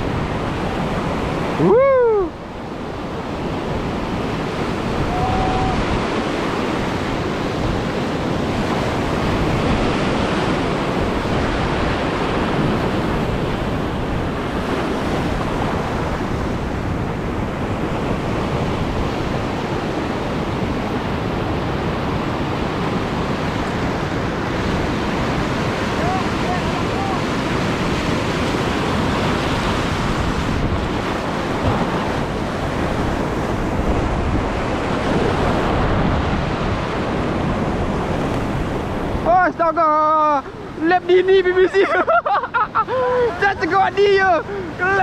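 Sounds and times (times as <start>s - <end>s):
wind on microphone: 0.0s - 41.2s
surf washing over reef: 0.0s - 45.0s.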